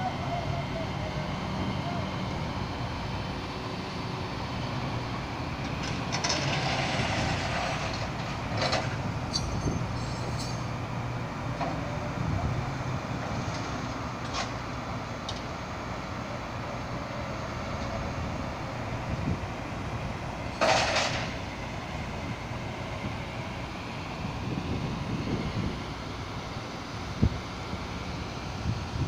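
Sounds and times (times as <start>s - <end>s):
street noise: 0.0s - 29.0s.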